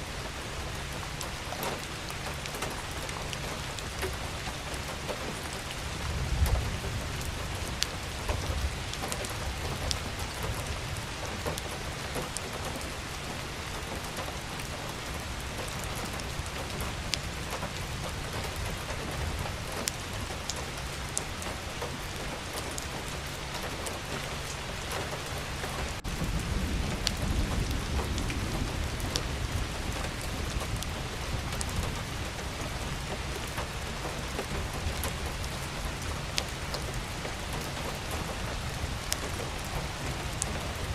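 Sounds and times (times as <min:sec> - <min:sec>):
steady rain hiss: 0:00.0 - 0:40.9
rain drop ticks: 0:00.1 - 0:40.9.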